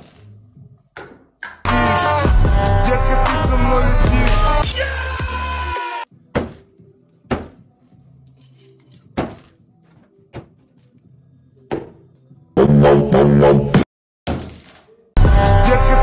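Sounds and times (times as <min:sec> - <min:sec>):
music: 0:00.0 - 0:13.8, 0:15.2 - 0:16.0.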